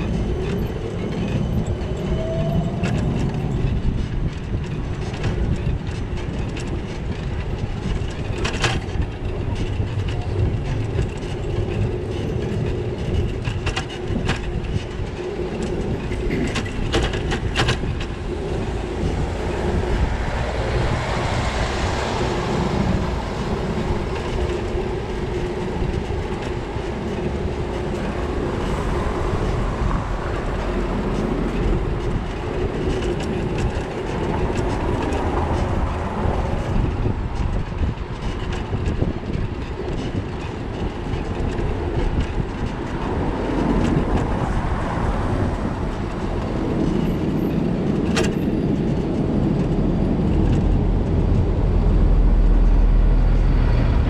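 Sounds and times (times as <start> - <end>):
bicycle rumbling and rattling: 0.0 - 54.0.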